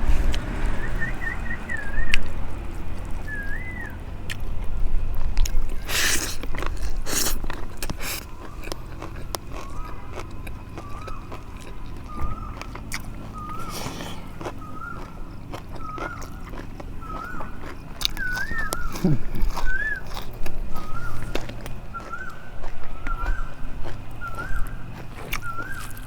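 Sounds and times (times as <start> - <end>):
bird chirping: 0.3 - 4.1, 5.5 - 26.0
food crunching: 1.2 - 26.0
person chewing food: 1.9 - 26.0.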